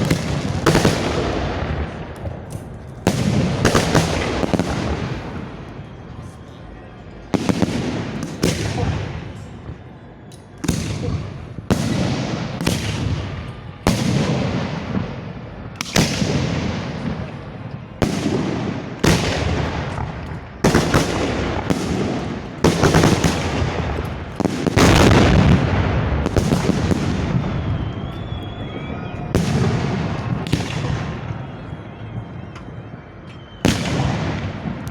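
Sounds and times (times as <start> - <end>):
fireworks bangs with rolling echo: 0.0 - 6.6, 7.2 - 34.9.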